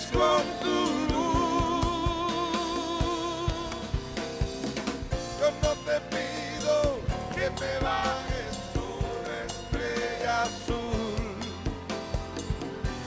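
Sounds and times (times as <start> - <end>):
drum kit and congas: 0.0 - 13.0.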